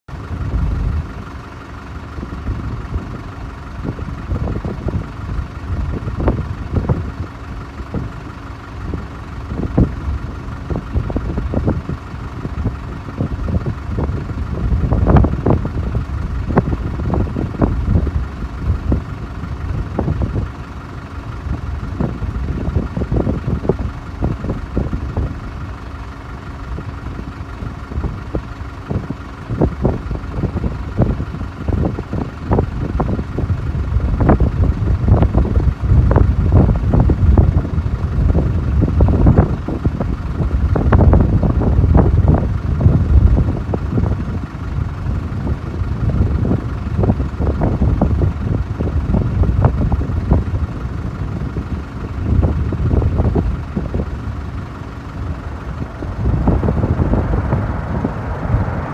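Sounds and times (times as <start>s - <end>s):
distant jet engines hum and whine: 0.1s - 58.9s
wind buffeting the microphone: 0.2s - 1.4s, 2.0s - 58.9s.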